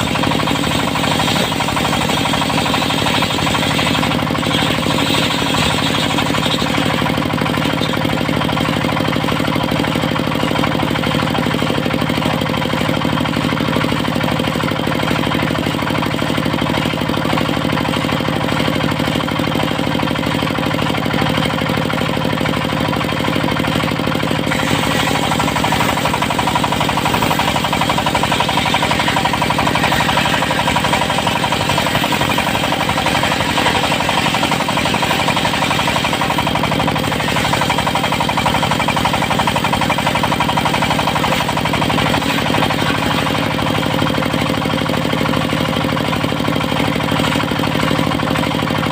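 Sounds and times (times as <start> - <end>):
diesel engine knocking: 0.0 - 48.9.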